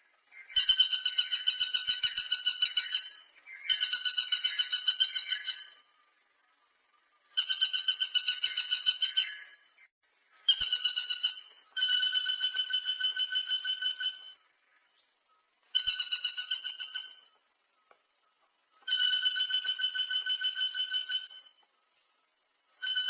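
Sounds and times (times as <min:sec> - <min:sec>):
woodpecker rattling calls: 0:00.3 - 0:05.9, 0:07.3 - 0:21.8, 0:22.8 - 0:23.0.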